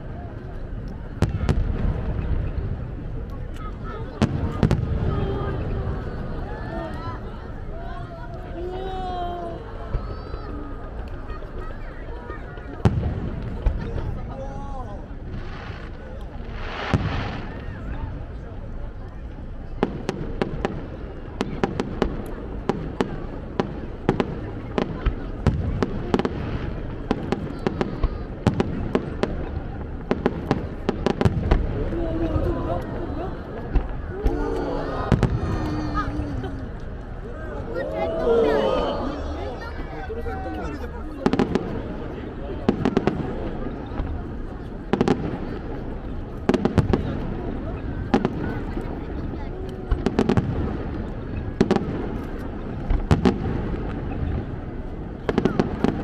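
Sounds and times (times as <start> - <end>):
fireworks bursting with sharp bangs: 0.0 - 7.7, 9.6 - 14.4, 15.0 - 38.0, 40.7 - 56.0.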